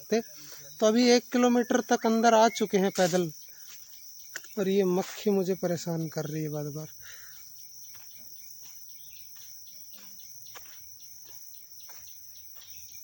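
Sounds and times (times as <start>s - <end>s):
insect chorus shrilling: 0.0s - 13.0s.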